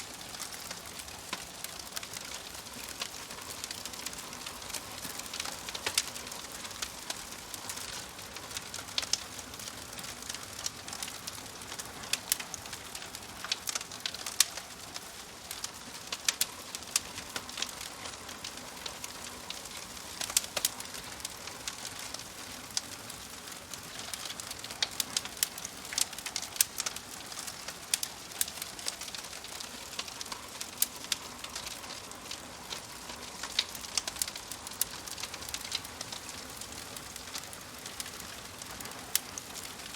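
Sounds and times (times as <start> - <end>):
soft fire hiss: 0.0 - 39.9
wood fire crackling and popping: 0.0 - 39.9.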